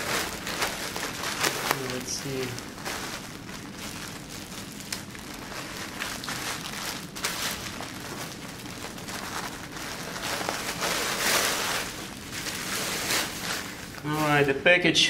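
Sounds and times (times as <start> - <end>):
plastic bag crinkling: 0.0 - 14.8.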